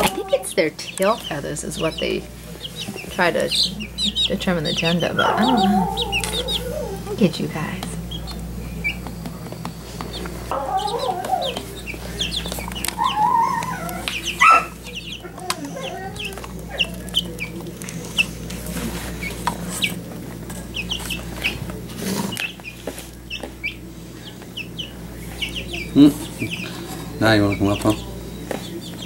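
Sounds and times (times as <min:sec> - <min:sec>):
chicks peeping: 0:00.0 - 0:29.0
low steady hum: 0:00.0 - 0:29.0.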